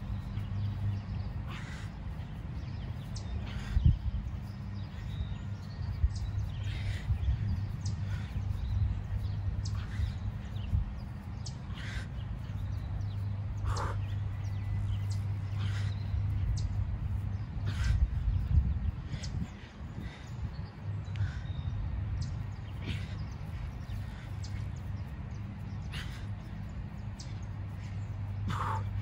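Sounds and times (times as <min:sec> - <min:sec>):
short bird calls: 0:00.0 - 0:29.0
steady low hum: 0:00.0 - 0:29.0.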